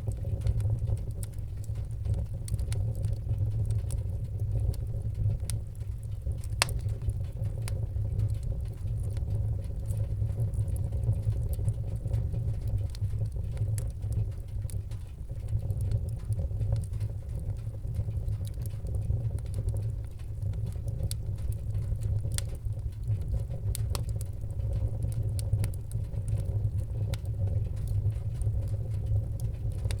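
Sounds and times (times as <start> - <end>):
fire crackling and popping: 0.0 - 30.0
fire roaring: 0.0 - 30.0.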